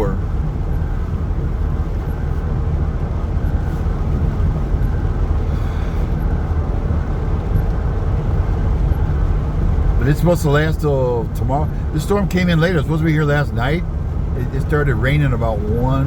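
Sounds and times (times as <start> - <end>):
road noise inside cabin: 0.0 - 16.0
vehicle engine rumble: 0.0 - 16.0.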